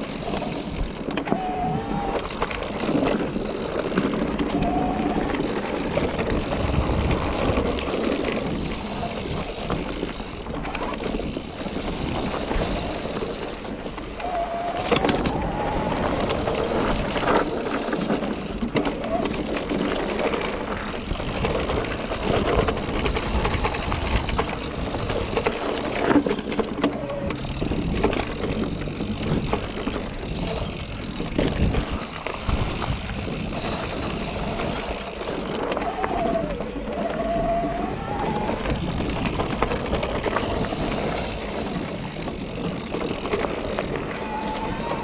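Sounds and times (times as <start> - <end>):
bike knocking and rattling: 0.0 - 45.0
bike tyres rolling on dirt: 0.0 - 45.0.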